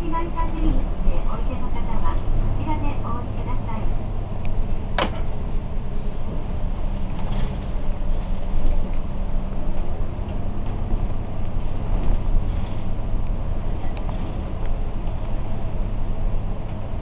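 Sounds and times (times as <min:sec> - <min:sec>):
bus engine drone: 0:00.0 - 0:17.0
road and tyre noise: 0:00.0 - 0:17.0.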